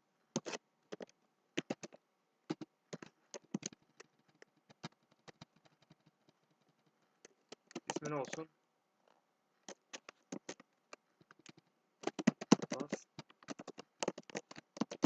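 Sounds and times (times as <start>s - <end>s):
keyboard typing: 0.4s - 8.4s, 9.7s - 10.6s, 11.2s - 15.0s.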